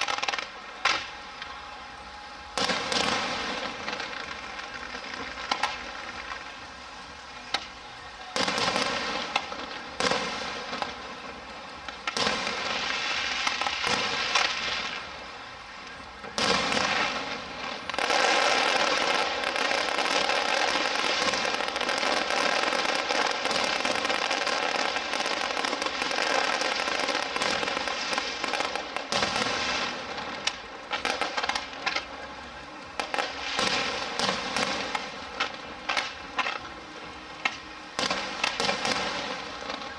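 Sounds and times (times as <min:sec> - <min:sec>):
crackling and sizzling fireworks: 0:00.0 - 0:39.9
fireworks bursts: 0:00.0 - 0:39.9
quick fireworks pops: 0:00.0 - 0:39.9.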